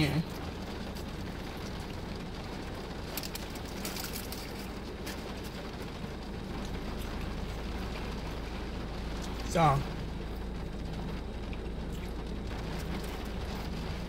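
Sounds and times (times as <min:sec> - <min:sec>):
low hum in car cabin: 0:00.0 - 0:14.0
rain on a car: 0:00.0 - 0:14.0.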